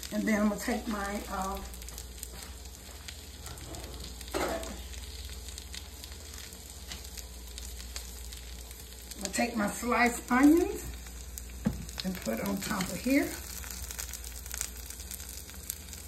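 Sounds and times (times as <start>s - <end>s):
meat and onions sizzling in a skillet: 0.0s - 16.0s.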